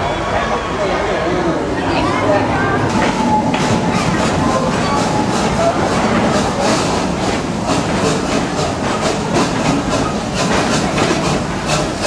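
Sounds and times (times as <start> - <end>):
train rumbling on track: 0.0 - 12.0
rhythmic hissing pulses: 2.2 - 12.0.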